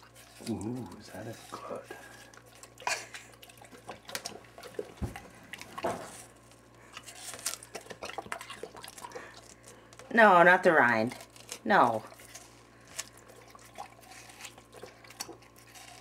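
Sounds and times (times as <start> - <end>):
dog chewing wetly: 0.0 - 16.0.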